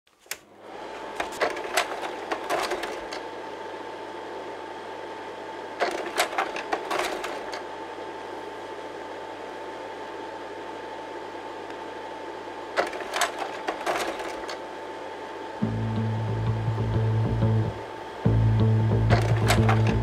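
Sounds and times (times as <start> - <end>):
mechanical whirring hum: 0.1 - 20.0.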